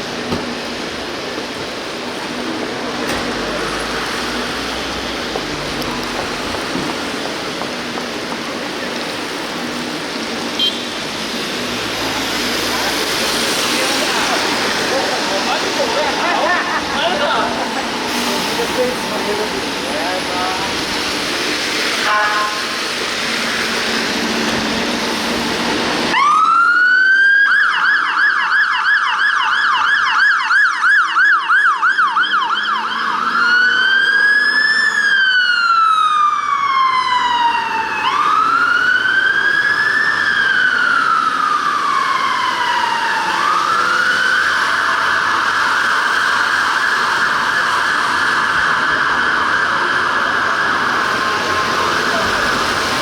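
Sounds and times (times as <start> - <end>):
fire engine siren: 0.0 - 53.0.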